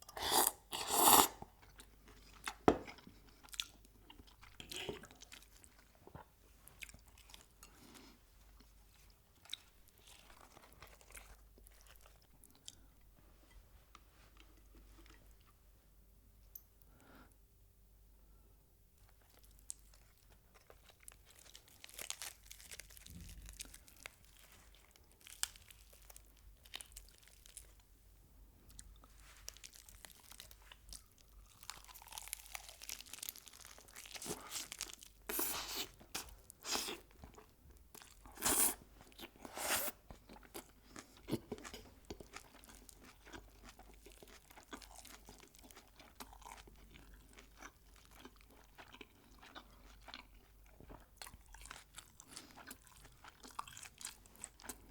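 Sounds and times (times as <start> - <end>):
crunching and chewing fried chicken: 0.0 - 13.0, 19.0 - 27.9, 28.7 - 54.9.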